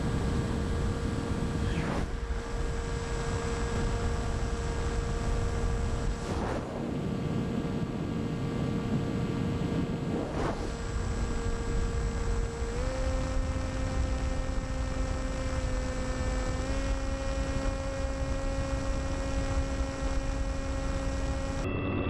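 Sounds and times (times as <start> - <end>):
wind rumble on microphone: 0.0 - 21.7
electric motor and propeller whine: 0.0 - 22.0.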